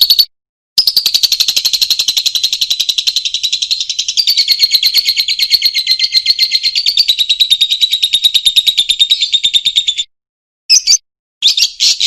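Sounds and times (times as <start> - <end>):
bird chirps: 0.0 - 10.1, 10.7 - 12.0
lovebird chattering trill: 0.0 - 10.1, 10.7 - 12.0.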